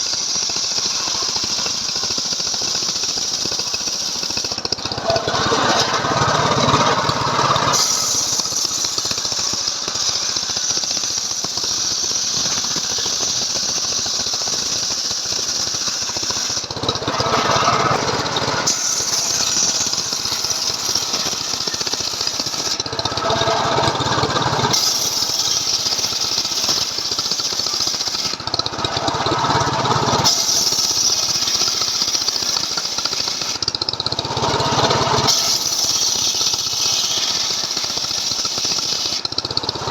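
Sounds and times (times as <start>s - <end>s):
chainsaw engine cutting wood: 0.0s - 39.9s.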